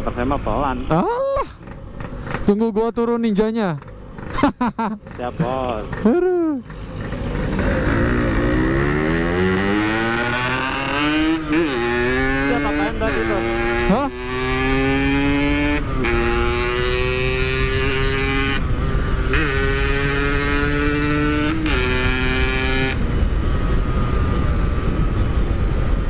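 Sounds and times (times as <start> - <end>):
wind and road noise: 0.0 - 26.0
motorcycle engine accelerating: 3.6 - 26.0.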